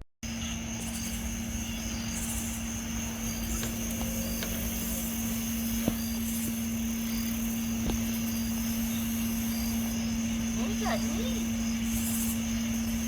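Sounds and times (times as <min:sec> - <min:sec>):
low hum with high whine: 0:00.2 - 0:13.0.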